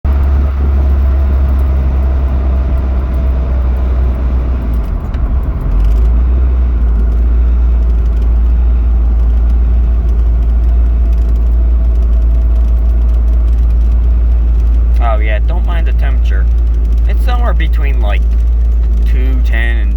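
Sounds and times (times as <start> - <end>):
car engine deep rumble: 0.0 - 19.9.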